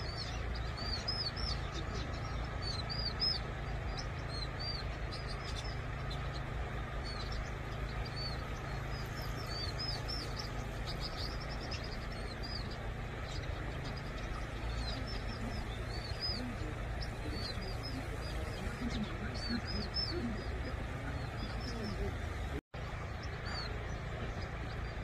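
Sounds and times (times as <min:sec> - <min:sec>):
birds chirping: 0:00.0 - 0:25.0
low background rumble: 0:00.0 - 0:25.0.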